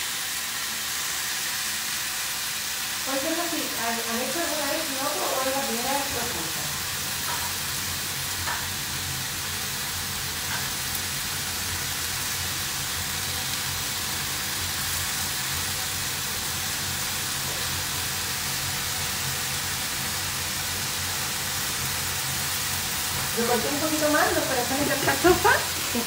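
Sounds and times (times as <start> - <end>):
mushrooms sizzling in a frying pan: 0.0 - 26.0.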